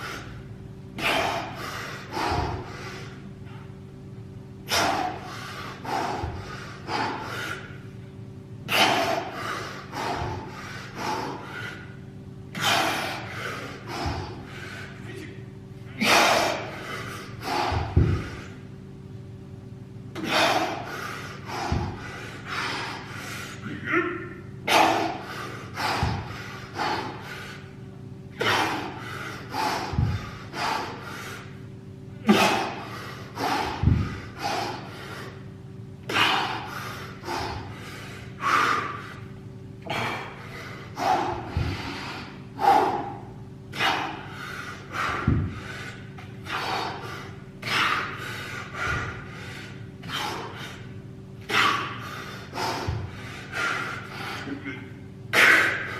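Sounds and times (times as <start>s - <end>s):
person breathing hard: 0.0s - 3.8s, 4.4s - 18.8s, 20.2s - 55.9s.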